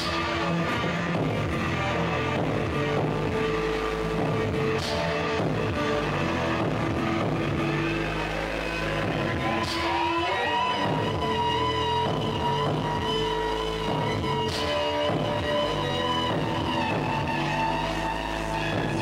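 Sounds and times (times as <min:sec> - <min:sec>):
loud droning noise music: 0:00.0 - 0:19.0.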